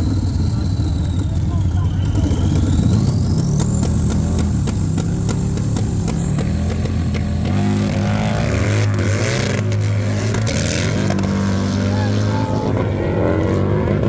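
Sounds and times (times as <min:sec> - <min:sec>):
motorcycle engine revving and accelerating: 0:00.0 - 0:14.0.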